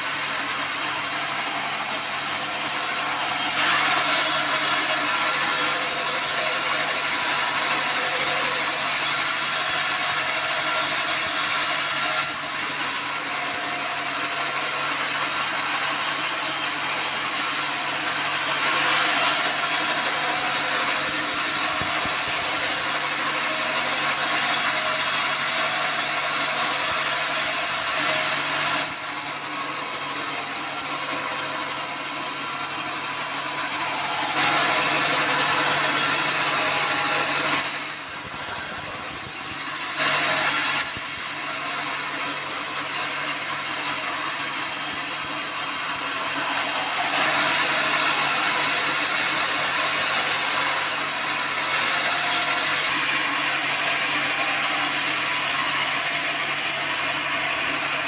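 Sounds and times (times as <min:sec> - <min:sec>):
saw blade hissing through log: 0:00.0 - 0:56.5
sawmill motor hum: 0:00.0 - 0:58.0.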